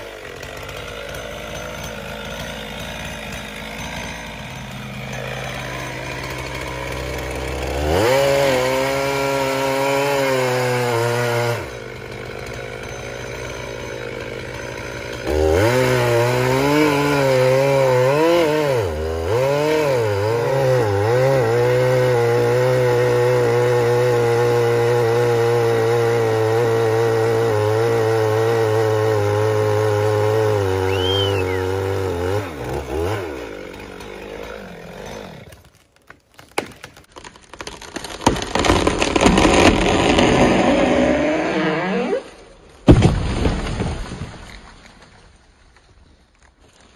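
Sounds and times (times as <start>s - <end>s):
chainsaw cutting wood: 0.0s - 45.2s.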